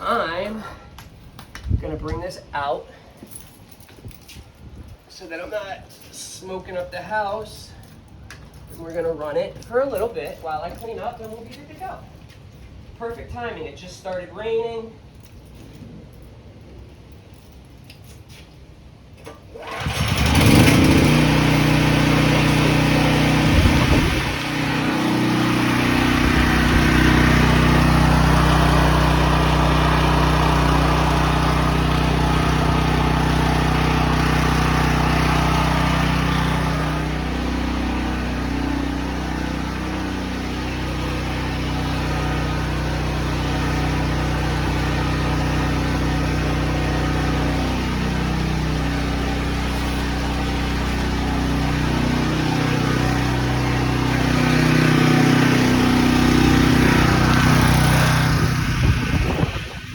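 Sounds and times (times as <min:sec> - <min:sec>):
generator engine starting and running: 0:00.0 - 0:59.9.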